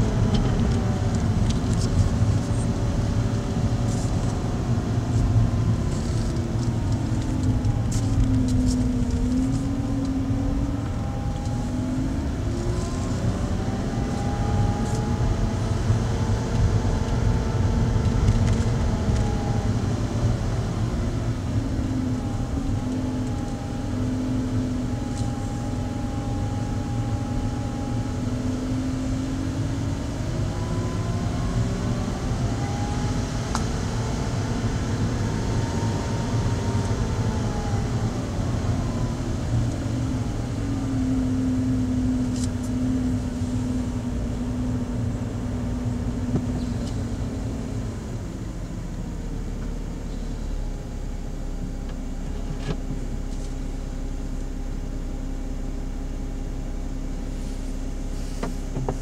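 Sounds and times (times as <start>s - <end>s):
tyre rumble inside car: 0.0s - 28.0s, 31.4s - 47.9s, 51.6s - 54.5s, 57.2s - 59.0s
car engine hum: 0.0s - 59.0s.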